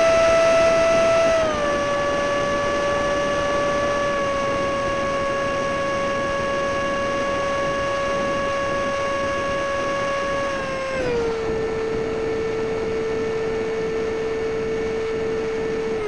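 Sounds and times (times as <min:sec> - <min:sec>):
electric fan whining: 0:00.0 - 0:16.0.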